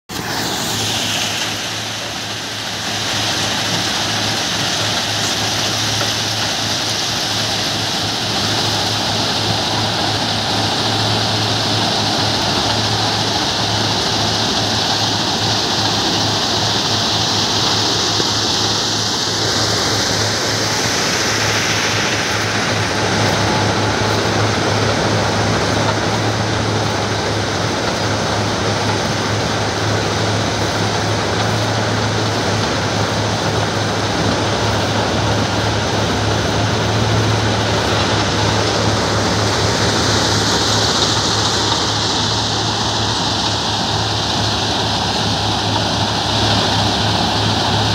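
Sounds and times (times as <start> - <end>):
loud continuous rushing noise: 0.1 - 47.9
low engine hum: 0.1 - 47.9.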